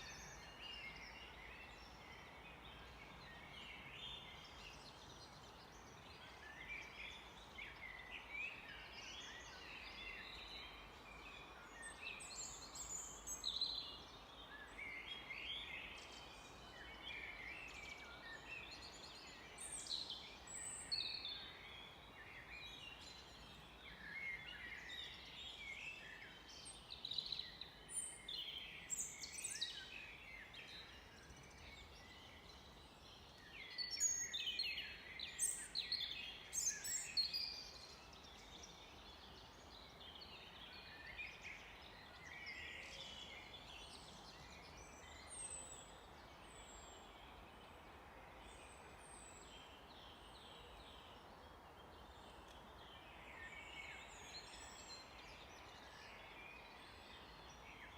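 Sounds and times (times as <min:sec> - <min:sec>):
faint steady hiss: 0:00.0 - 0:57.9
wild birds singing and chirping: 0:00.0 - 0:57.9.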